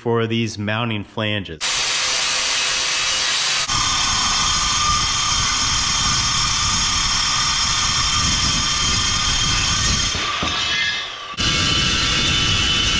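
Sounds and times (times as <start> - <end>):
angle grinder cutting steel: 1.6 - 12.9
circular saw cutting steel: 1.6 - 12.9.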